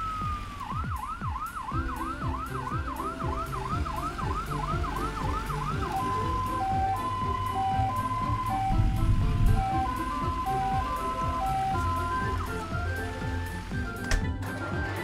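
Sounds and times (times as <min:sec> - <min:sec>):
cartoon ambulance siren yelping: 0:00.0 - 0:14.1.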